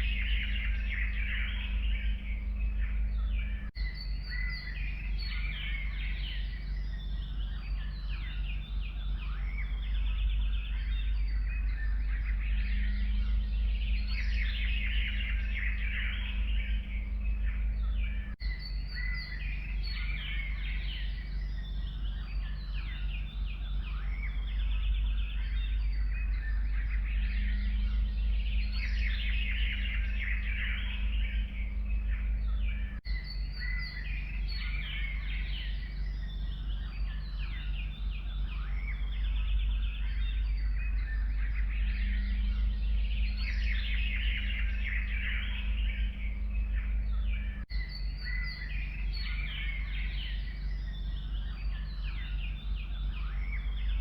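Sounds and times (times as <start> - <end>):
songbirds singing and chirping: 0.0 - 54.0
steady low rumble: 0.0 - 54.0.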